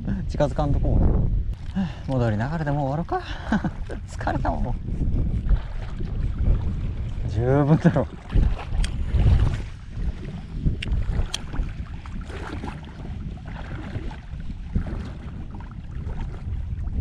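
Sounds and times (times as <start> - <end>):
wind rumbling on microphone: 0.0 - 17.0
water sloshing around legs: 1.5 - 17.0.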